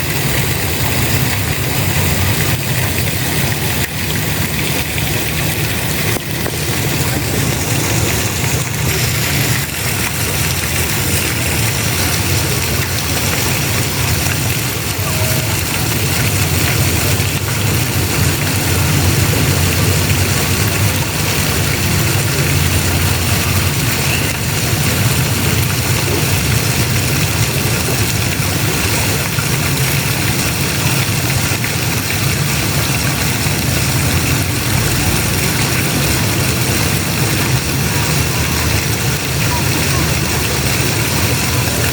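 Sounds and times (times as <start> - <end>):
spraying and falling water: 0.0 - 41.9.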